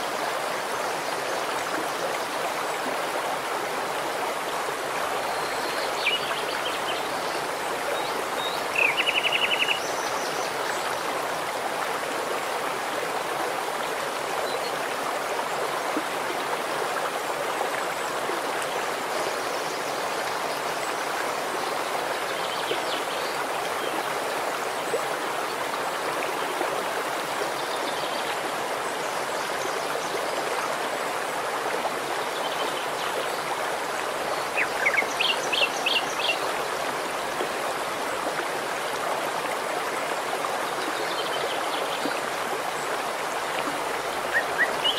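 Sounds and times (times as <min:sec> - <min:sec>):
stream rushing over stones: 0:00.0 - 0:44.9.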